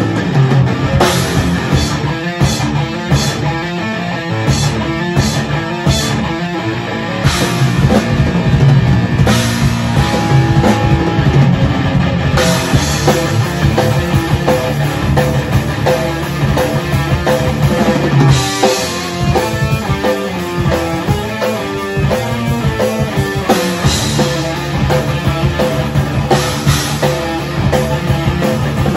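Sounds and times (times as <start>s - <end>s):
drum kit beating: 0.0s - 28.9s
electric guitars: 0.0s - 28.9s
rock band playing: 0.0s - 28.9s.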